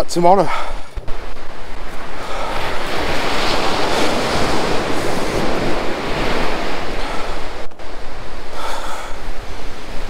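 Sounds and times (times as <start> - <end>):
wind buffeting microphone: 0.0 - 10.0
sea waves breaking: 0.4 - 10.0.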